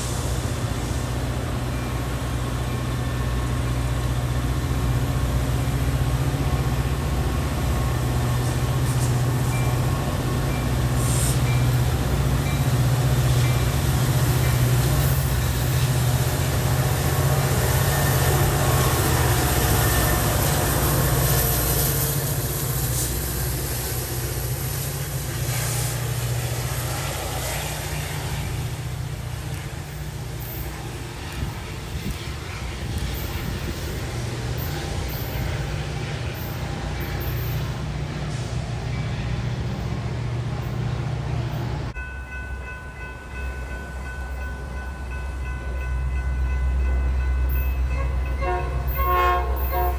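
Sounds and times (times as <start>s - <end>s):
train rumbling past on rails: 0.0s - 49.9s.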